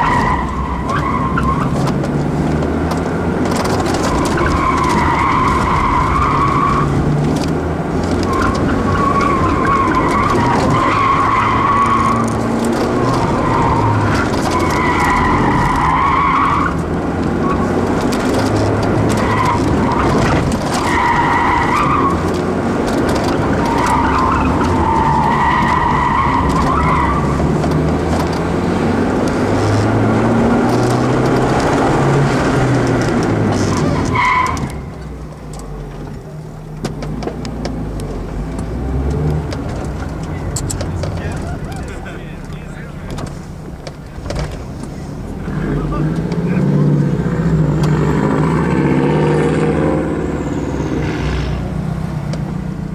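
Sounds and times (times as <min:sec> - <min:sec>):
tyres squealing: 0:00.0 - 0:48.4
car engine under load: 0:00.0 - 0:52.9.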